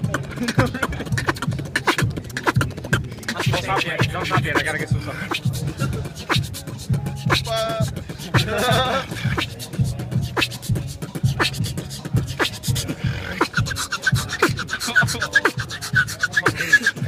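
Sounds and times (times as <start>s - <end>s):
beatboxing beat: 0.0s - 17.0s
buzzing vocal line: 0.0s - 17.0s.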